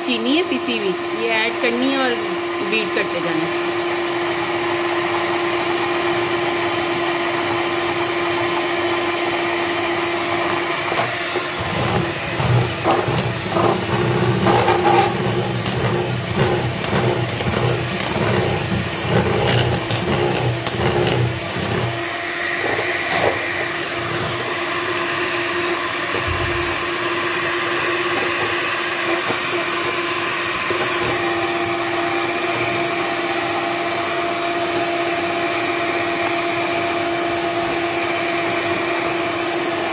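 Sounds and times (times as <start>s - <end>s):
stand mixer whirring: 0.0s - 39.9s.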